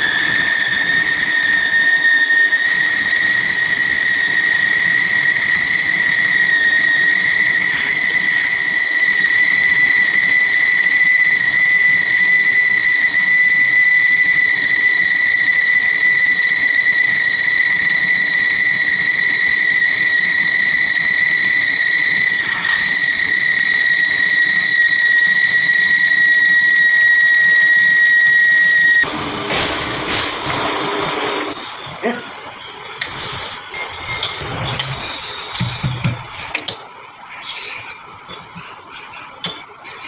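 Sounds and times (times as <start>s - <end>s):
milling machine whining: 0.0s - 40.0s.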